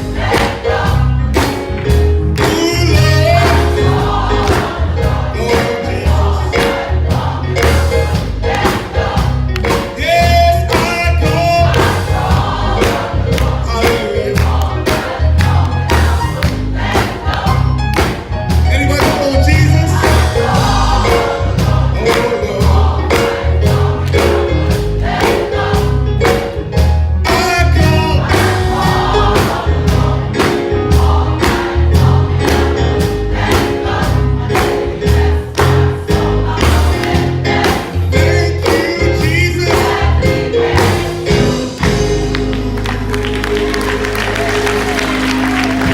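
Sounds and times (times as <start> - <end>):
gospel choir singing with band: 0.0 - 45.9.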